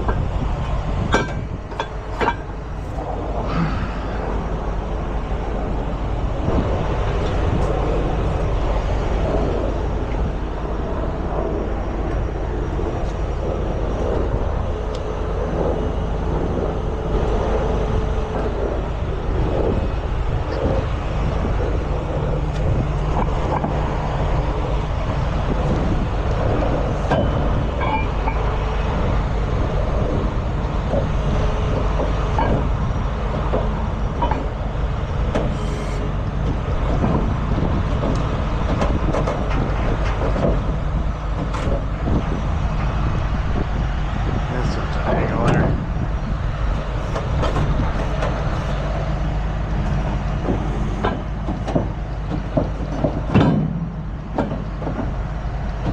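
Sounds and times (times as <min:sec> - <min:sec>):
diesel truck engine running: 0:00.0 - 0:55.9.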